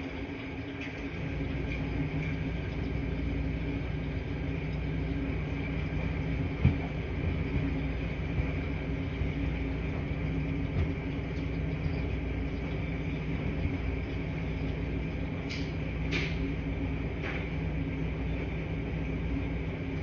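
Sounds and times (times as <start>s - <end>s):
washing machines humming: 0.0s - 20.0s.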